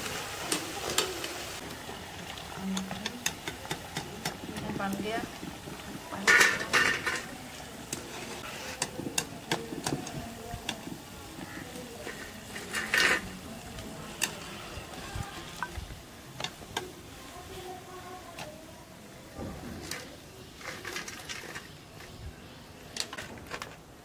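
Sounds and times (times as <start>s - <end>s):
oil sizzling: 0.0s - 24.0s.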